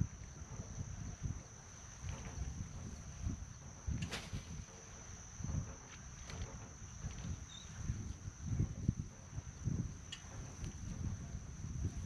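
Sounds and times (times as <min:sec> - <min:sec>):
crickets trilling: 0:00.0 - 0:12.0
wind buffeting microphone: 0:00.0 - 0:12.0.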